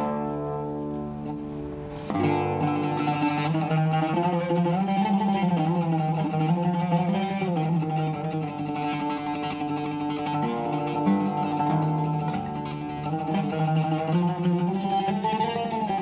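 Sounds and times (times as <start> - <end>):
oud plucked melody: 0.0 - 16.0.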